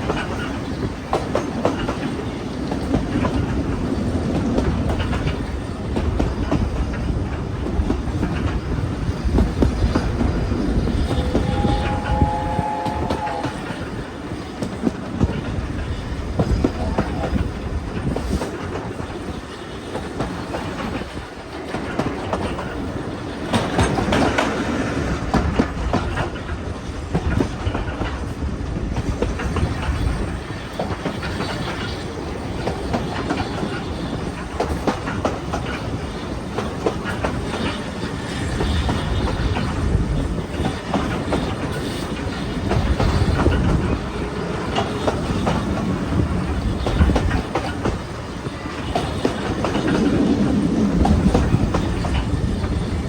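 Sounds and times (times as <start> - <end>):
train rumble: 0.0 - 53.0
train wheels clacking on rails: 0.0 - 53.0.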